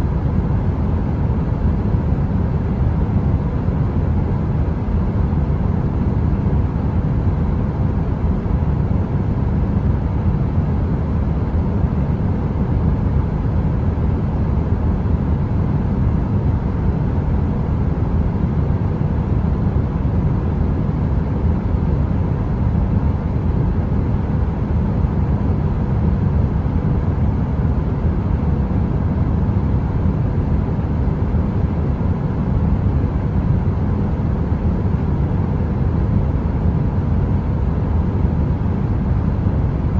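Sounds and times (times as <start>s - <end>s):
faint hum: 0.0s - 39.9s
heater fan running: 0.0s - 39.9s.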